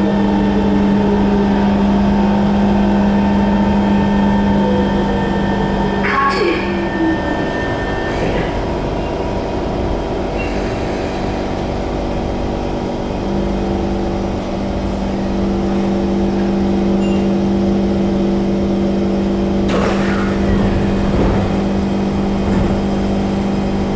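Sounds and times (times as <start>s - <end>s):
train electrical equipment humming: 0.0s - 23.9s.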